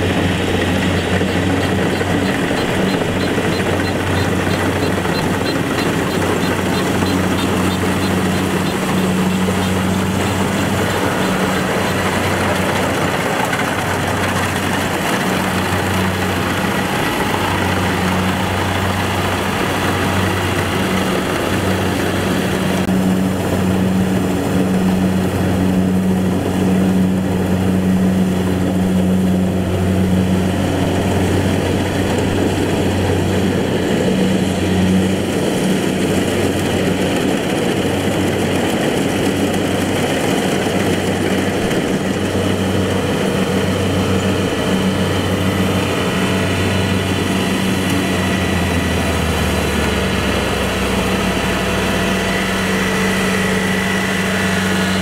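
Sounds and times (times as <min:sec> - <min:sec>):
combine harvester engine droning: 0:00.0 - 0:55.0
deeper hum: 0:00.0 - 0:55.0.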